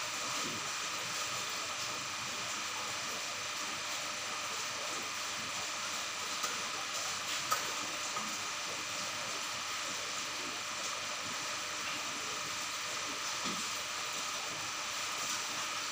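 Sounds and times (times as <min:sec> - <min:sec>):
aquarium filter water hiss: 0:00.0 - 0:15.9
faint motor hum: 0:00.0 - 0:15.9.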